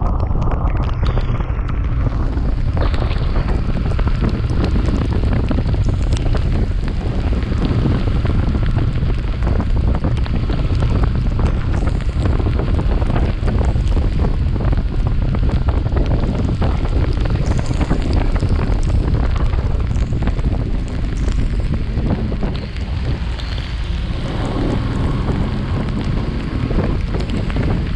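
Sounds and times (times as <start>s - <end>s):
wind buffeting on microphone: 0.0s - 27.9s.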